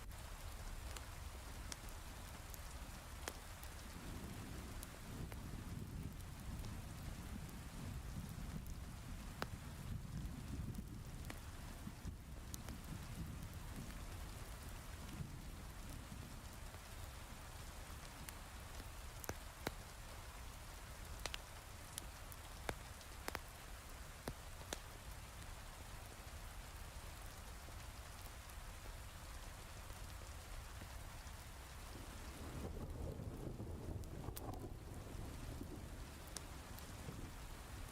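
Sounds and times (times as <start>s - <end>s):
heavy rain: 0.0s - 37.9s
wood fire crackling pops: 0.1s - 26.1s, 29.8s - 37.9s.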